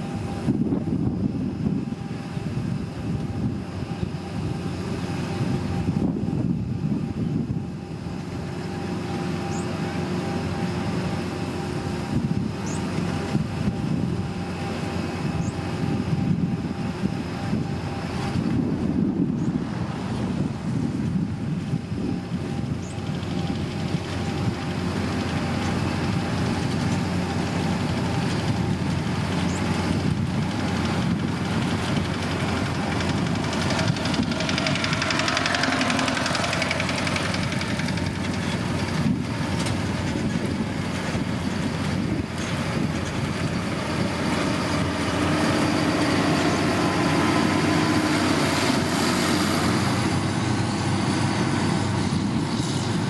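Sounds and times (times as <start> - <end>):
diesel grader engine running: 0.0 - 53.0.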